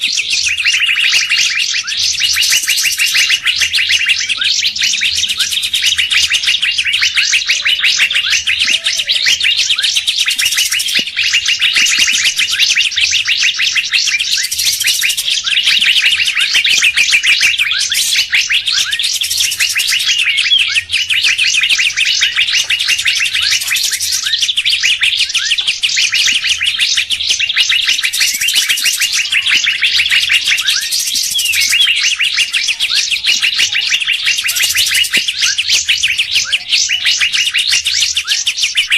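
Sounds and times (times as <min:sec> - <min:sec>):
songbirds chattering and twittering: 0:00.0 - 0:38.9.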